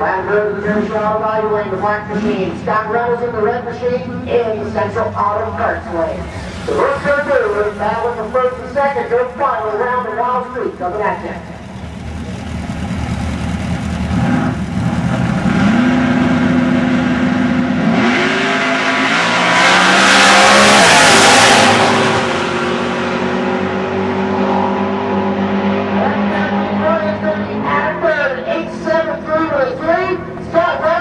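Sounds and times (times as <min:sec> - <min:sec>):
drag racing car engines: 0:00.0 - 0:31.0.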